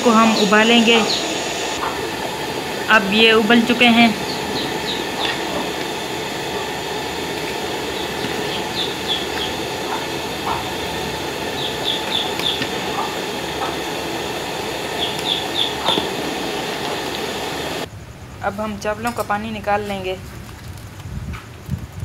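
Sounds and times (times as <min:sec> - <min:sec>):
pot boiling and bubbling: 0:00.0 - 0:18.2.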